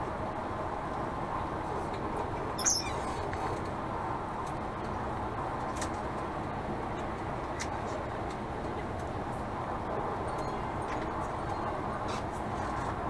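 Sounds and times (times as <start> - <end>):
coach road and engine noise: 0.0 - 13.0.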